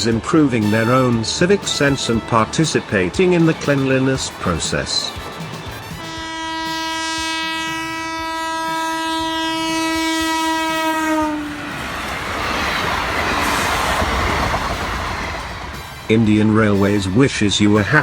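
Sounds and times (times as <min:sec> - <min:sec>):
train horn blast: 0:00.0 - 0:17.2
train running on rails: 0:00.0 - 0:18.0.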